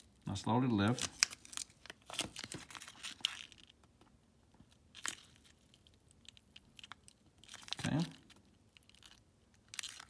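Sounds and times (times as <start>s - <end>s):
screen adhesive crackling: 0.9s - 10.0s.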